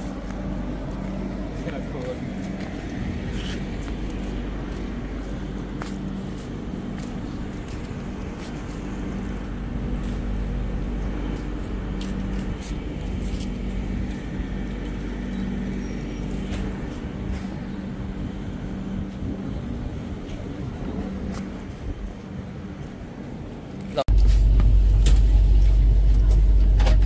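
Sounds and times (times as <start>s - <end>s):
low hum: 0.0s - 27.0s
train wheels rumbling on rails: 0.0s - 27.0s.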